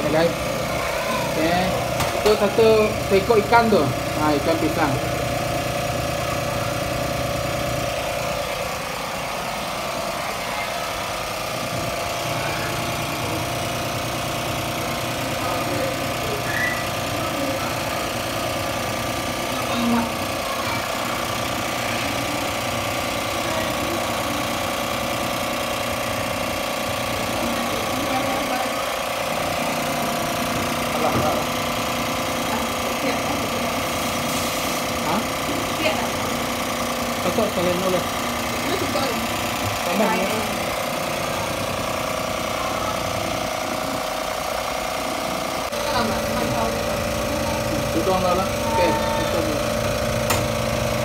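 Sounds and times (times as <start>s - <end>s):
motor humming: 0.0s - 51.0s.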